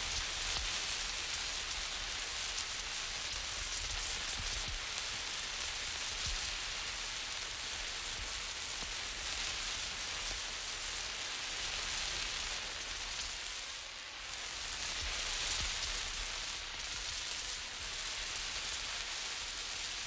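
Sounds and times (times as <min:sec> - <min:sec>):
flare hissing and crackling: 0:00.0 - 0:20.0.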